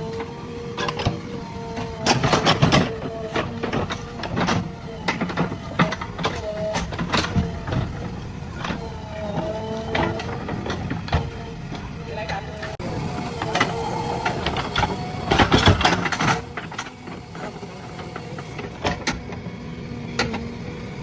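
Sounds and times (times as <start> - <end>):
backhoe engine and hydraulic whine: 0.0 - 21.0.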